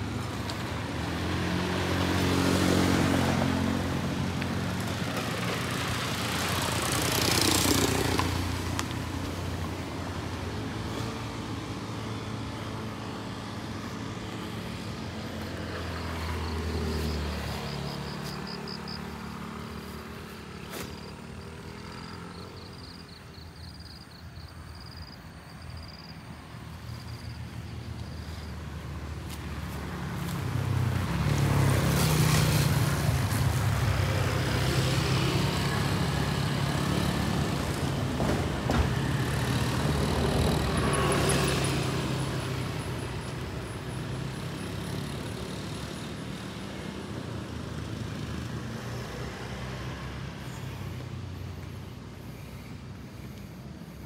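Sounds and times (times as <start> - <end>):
small motorcycle engines passing: 0.0 - 23.8, 25.5 - 54.0.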